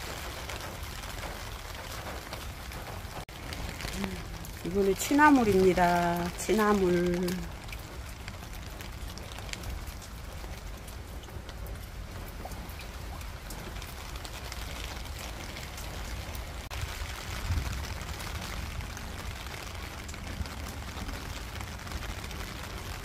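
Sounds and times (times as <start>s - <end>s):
continuous rain hiss: 0.0s - 23.0s
raindrops ticking on boards and leaves: 0.0s - 23.0s.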